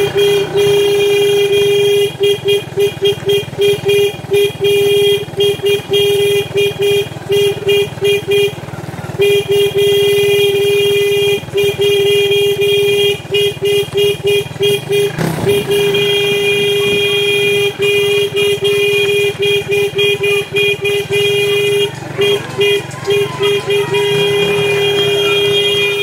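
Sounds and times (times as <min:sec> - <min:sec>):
horn-like tone: 0:00.0 - 0:08.6, 0:09.2 - 0:26.0
vehicle engine running: 0:00.0 - 0:26.0.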